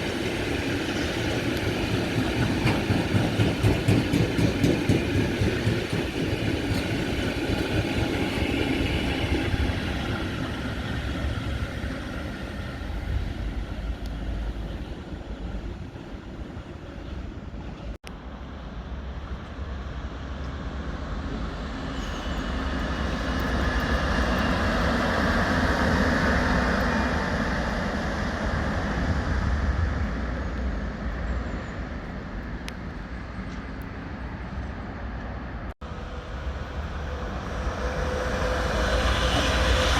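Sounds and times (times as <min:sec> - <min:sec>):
train rumbling on tracks: 0:00.0 - 0:39.9.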